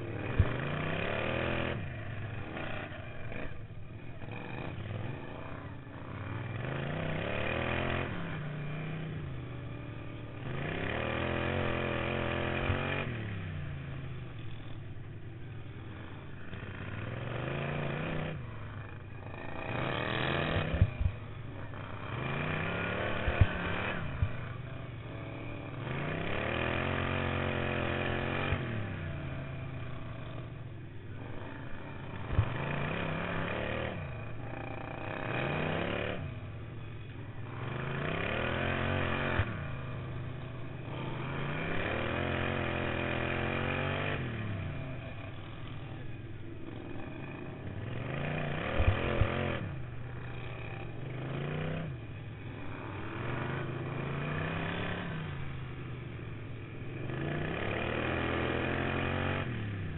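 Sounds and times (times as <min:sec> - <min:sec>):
lawn mower engine revving: 0:00.0 - 0:14.8, 0:16.0 - 0:59.9.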